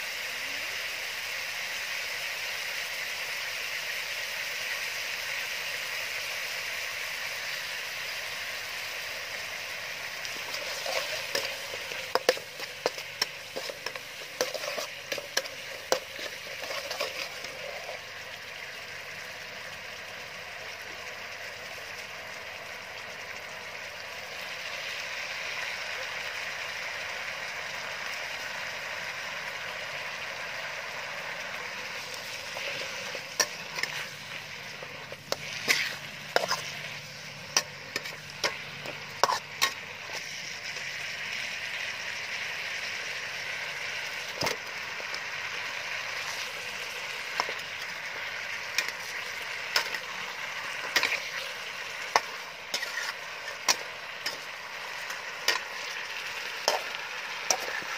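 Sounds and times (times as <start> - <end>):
food sizzling in oil: 0.0 - 57.9.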